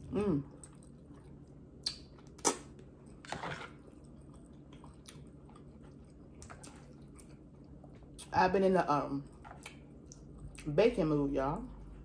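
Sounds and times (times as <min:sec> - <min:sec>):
chewing: 0:00.0 - 0:08.3, 0:09.2 - 0:10.7.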